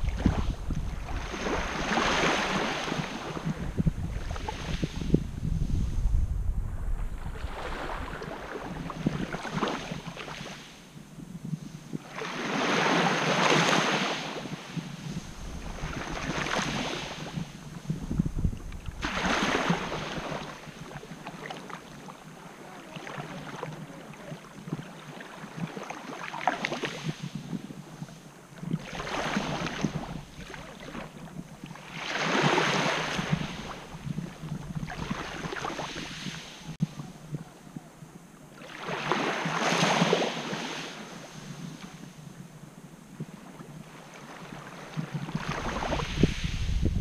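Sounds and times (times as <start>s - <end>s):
small waves washing on beach: 0.0s - 47.0s.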